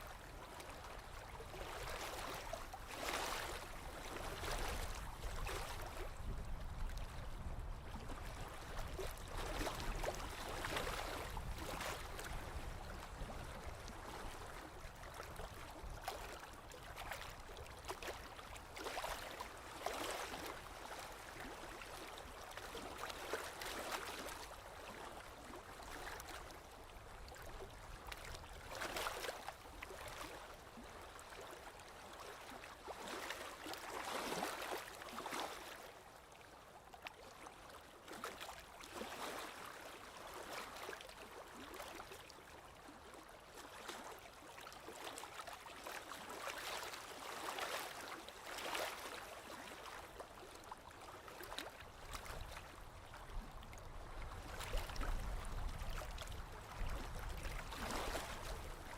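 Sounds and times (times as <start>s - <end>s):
small waves lapping on shore: 0.0s - 58.9s.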